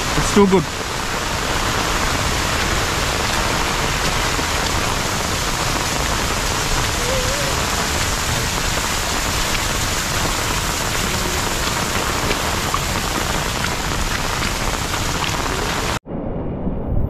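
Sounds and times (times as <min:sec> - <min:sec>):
raindrops ticking: 0:00.0 - 0:16.0
steady rain hiss: 0:00.0 - 0:16.0.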